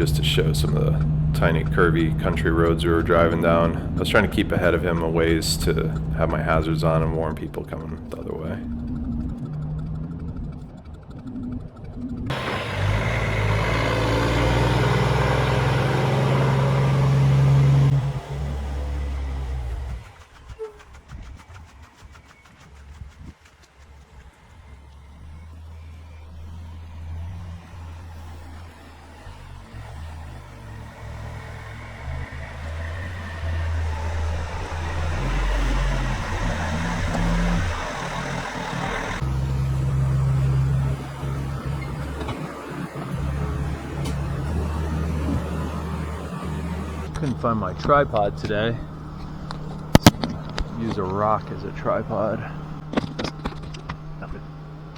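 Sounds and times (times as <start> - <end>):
heavy diesel engine under load: 0.0 - 21.8, 22.7 - 54.9
tyre and road noise: 0.0 - 54.9.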